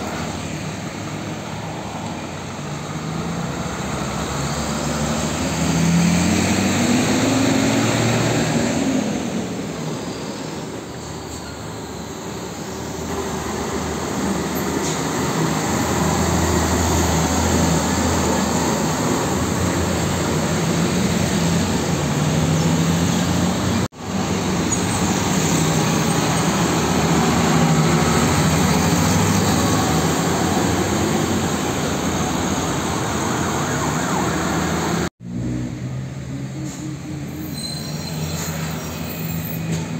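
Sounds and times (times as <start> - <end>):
diesel trucks passing: 0.0 - 39.9.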